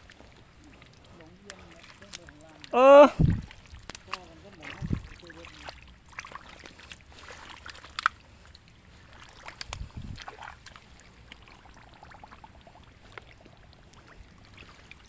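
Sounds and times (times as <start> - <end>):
water sloshing and pouring: 0.0 - 15.0.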